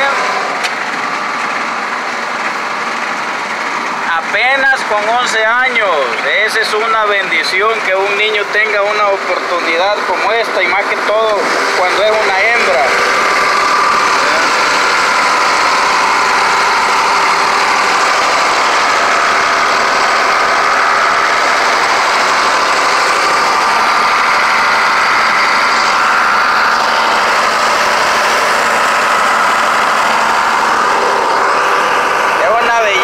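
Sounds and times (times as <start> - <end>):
steady whine: 0.0 - 33.0
tractor diesel engine running: 0.0 - 33.0.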